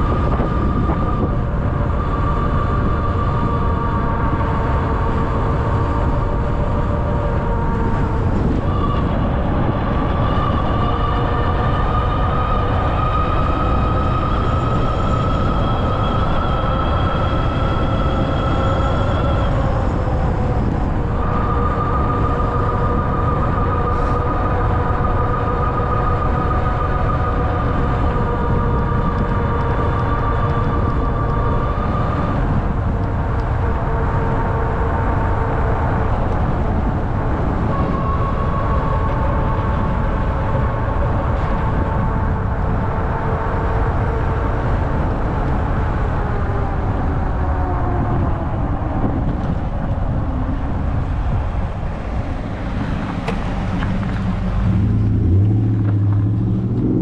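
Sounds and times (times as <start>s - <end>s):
tyres on road: 0.0s - 57.0s
wind rumbling on microphone: 0.0s - 57.0s.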